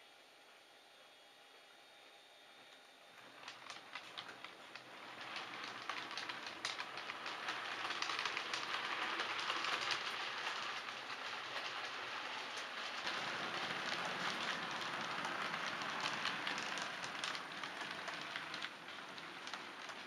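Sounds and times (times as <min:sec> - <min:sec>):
model train rolling hiss: 0:01.9 - 0:20.0
wheels clicking over rail joints: 0:03.2 - 0:20.0.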